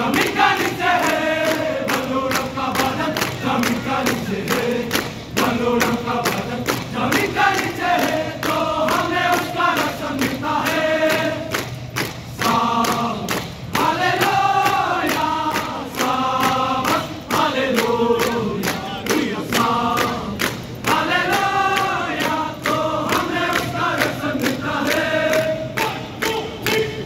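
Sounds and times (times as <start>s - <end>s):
soldiers singing marching song: 0.0s - 27.0s
steady marching beat: 0.0s - 27.0s.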